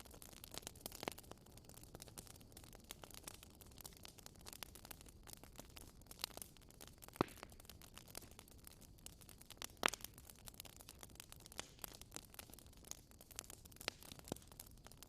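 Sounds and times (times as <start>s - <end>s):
campfire crackling: 0.0s - 15.0s
campfire pops: 0.0s - 15.0s.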